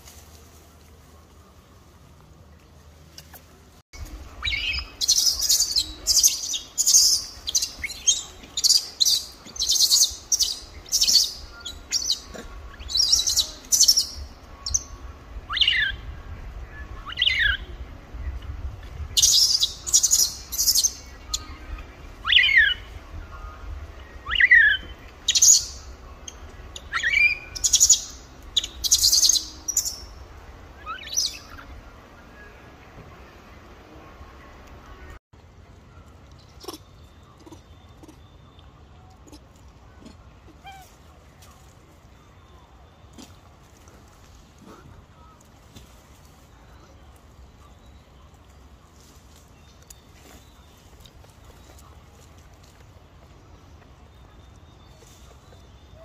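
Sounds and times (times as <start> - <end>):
birds chirping: 0.7 - 56.0.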